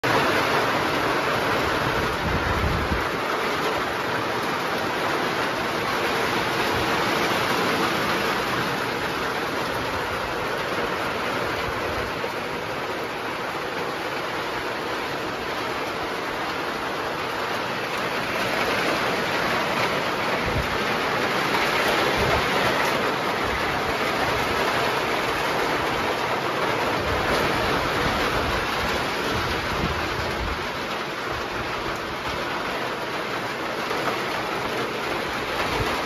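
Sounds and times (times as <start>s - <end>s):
heavy rain on metal: 0.0s - 36.0s.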